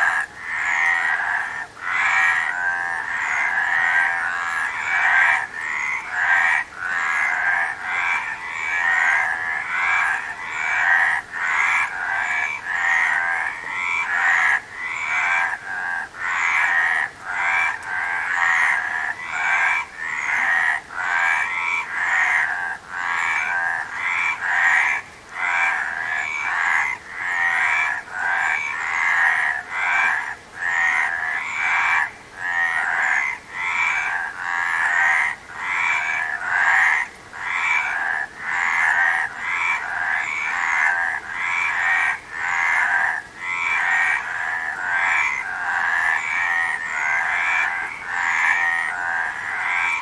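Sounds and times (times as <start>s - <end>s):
frogs croaking in chorus: 0.0s - 50.0s.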